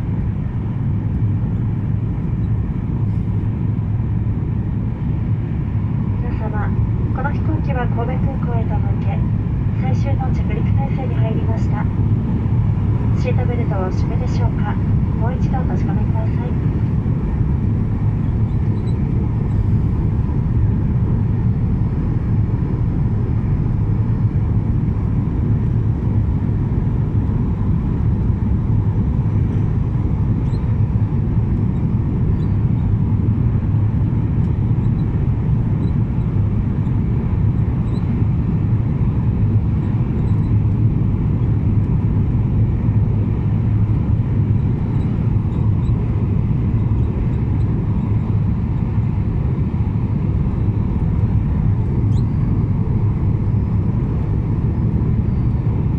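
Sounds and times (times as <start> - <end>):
jet engines droning in cabin: 0.0 - 55.9.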